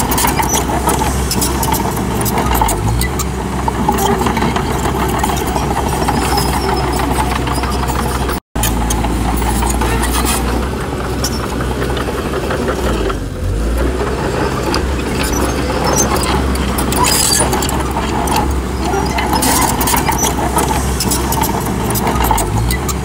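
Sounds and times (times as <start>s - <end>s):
bulldozer diesel engine droning: 0.0s - 23.0s
machine clicks and clanks: 0.0s - 23.0s.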